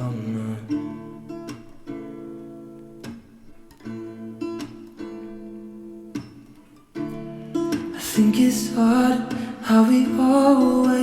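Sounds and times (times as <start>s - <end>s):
guitar playing ringing chords: 0.0s - 11.0s.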